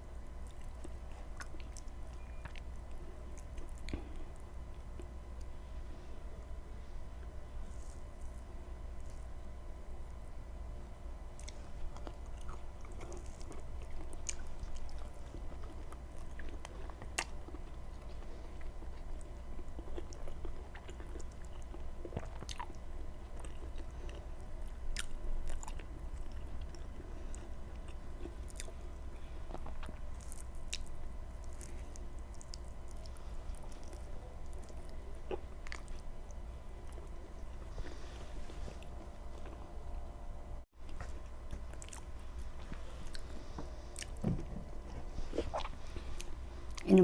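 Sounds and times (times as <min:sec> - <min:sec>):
steady low hum: 0:00.0 - 0:47.0
person chewing food: 0:00.4 - 0:05.6, 0:07.2 - 0:09.4, 0:11.3 - 0:39.8, 0:40.8 - 0:47.0.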